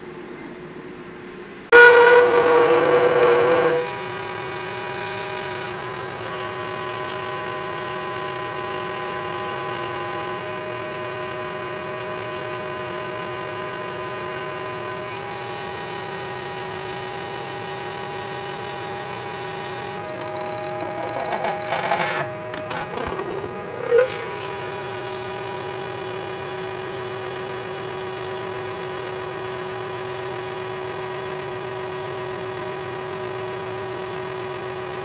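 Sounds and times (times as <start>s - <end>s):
lathe drilling whine: 1.7s - 35.0s.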